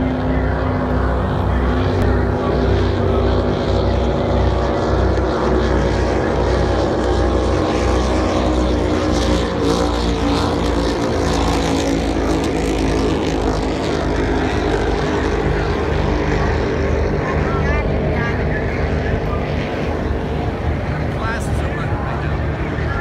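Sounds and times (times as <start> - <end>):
powerboat engines running: 0.0 - 23.0.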